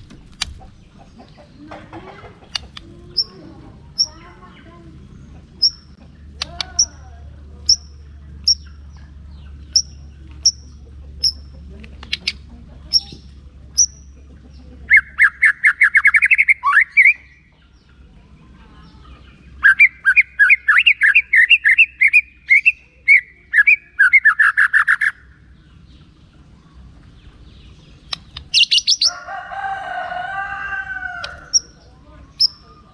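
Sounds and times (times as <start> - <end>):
bird singing: 0.0 - 32.9.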